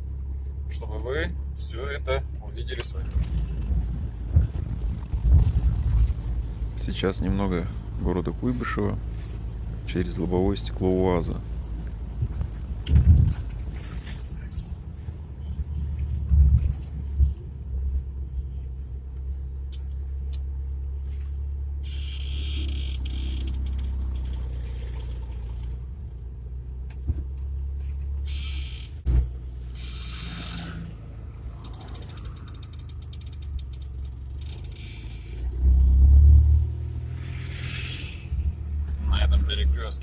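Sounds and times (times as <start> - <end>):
engine rumbling inside cab: 0.0 - 40.0
cab creaking and rattling: 2.1 - 18.1, 19.8 - 40.0.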